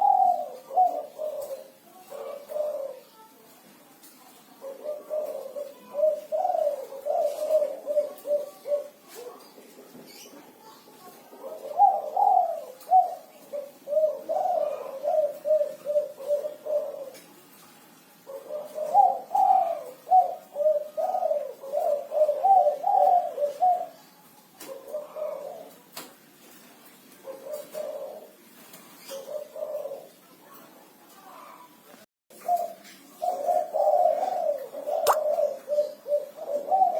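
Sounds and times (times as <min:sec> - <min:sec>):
dove cooing: 0:00.0 - 0:03.3, 0:04.3 - 0:17.5, 0:18.2 - 0:30.5, 0:32.3 - 0:36.9.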